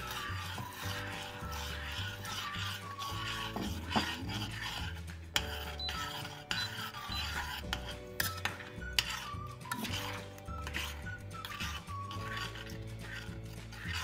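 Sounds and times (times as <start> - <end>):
background music: 0.0 - 14.0
spoon scraping saucepan: 0.0 - 14.0.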